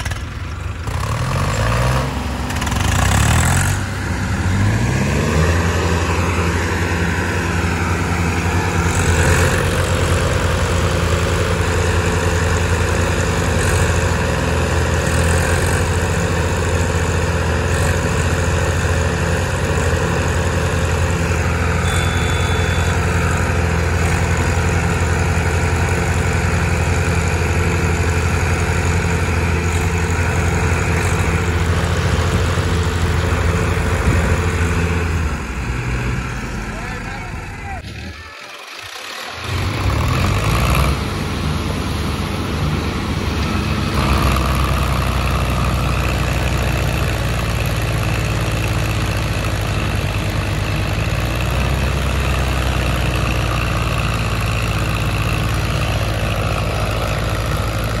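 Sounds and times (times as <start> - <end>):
tractor engines revving: 0.0 - 58.0.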